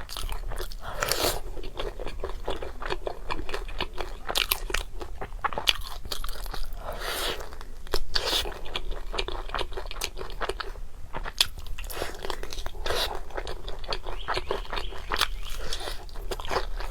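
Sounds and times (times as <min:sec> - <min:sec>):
person chewing crunchy food: 0:00.0 - 0:16.9.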